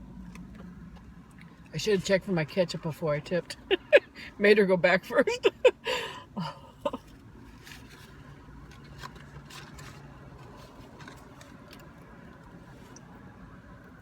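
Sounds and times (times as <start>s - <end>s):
faint low hum in car: 0.0s - 14.0s.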